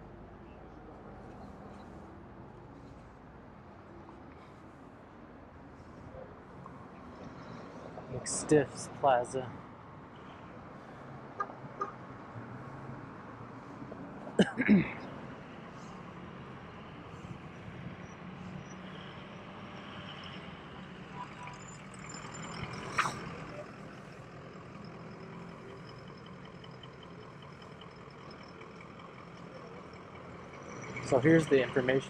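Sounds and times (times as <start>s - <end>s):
cars and trucks passing: 0.0s - 32.0s.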